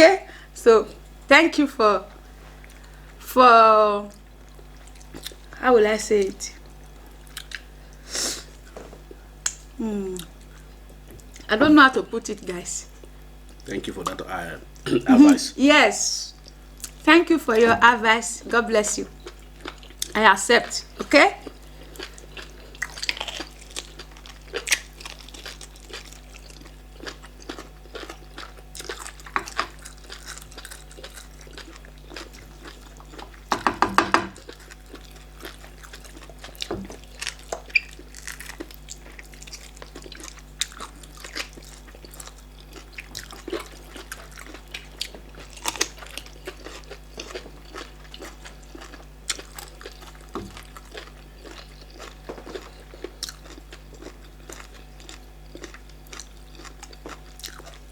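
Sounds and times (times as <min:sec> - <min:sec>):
faint steady hum: 0:00.0 - 0:57.9
people chewing and lip smacking: 0:02.5 - 0:03.2, 0:04.1 - 0:05.6, 0:06.2 - 0:15.5, 0:16.4 - 0:17.8, 0:18.4 - 0:57.9.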